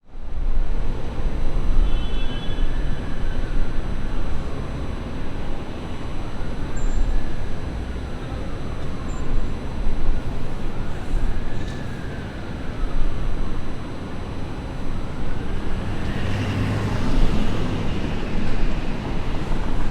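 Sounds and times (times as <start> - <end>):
low rumble of traffic: 0.0 - 19.9
faint siren wailing: 2.2 - 19.9.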